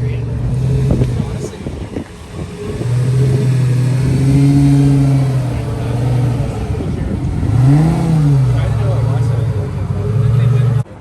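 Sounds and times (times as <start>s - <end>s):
sports car engine running: 0.0s - 11.0s.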